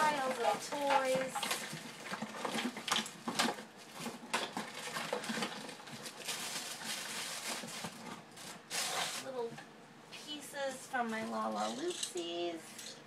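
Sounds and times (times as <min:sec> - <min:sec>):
small toys clattering: 0:00.0 - 0:09.2, 0:11.0 - 0:13.0.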